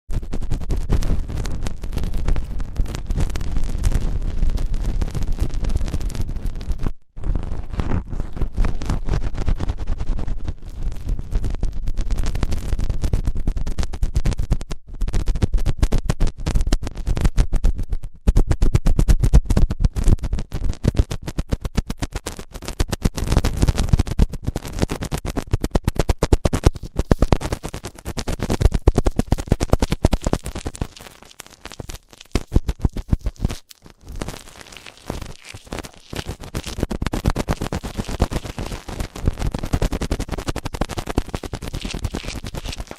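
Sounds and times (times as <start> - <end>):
scratching and rubbing on microphone: 0.1 - 42.9.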